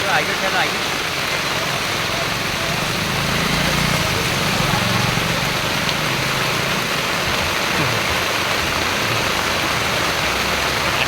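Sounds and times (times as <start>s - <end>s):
heavy rain on ground: 0.0s - 11.0s.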